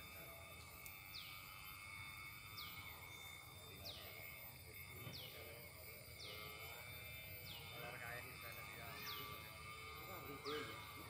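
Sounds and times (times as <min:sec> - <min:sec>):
faint high-pitched drone: 0:00.0 - 0:11.0.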